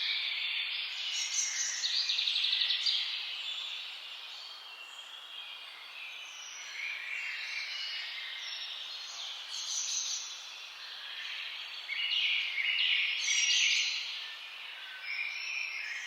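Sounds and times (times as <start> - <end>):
songbirds chorus: 0.0 - 16.0.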